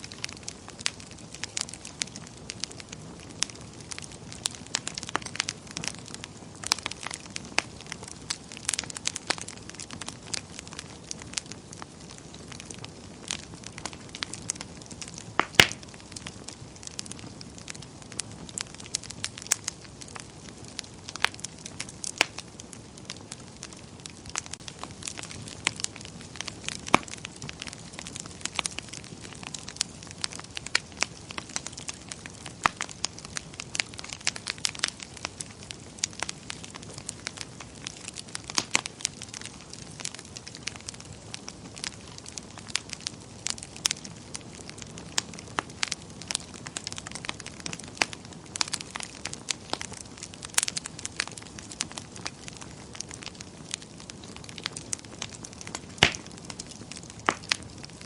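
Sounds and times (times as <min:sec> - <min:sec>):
fire crackles and pops: 0:00.0 - 0:58.0.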